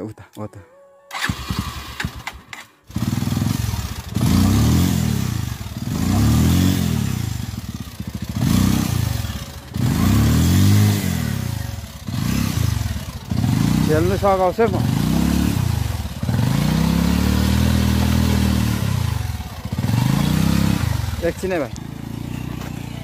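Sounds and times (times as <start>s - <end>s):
motorcycle engine revving: 1.1s - 23.0s.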